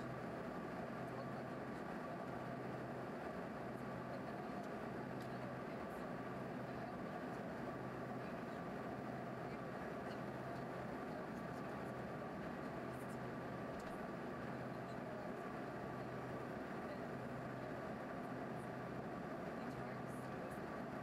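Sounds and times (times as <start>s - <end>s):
constant low hum: 0.0s - 21.0s
jet cabin engine drone: 0.0s - 21.0s.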